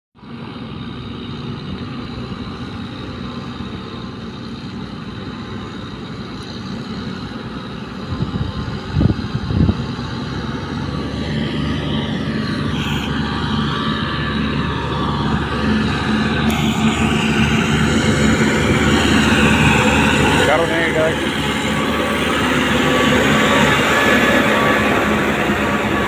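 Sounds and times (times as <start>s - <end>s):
heavy engines running under load: 0.2s - 26.0s.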